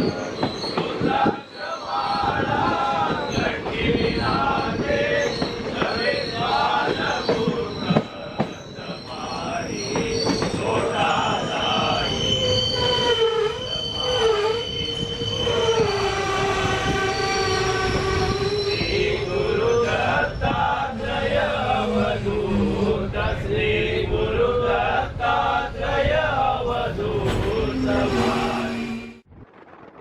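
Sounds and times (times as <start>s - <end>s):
train wheels squealing on rails: 0.0s - 29.2s.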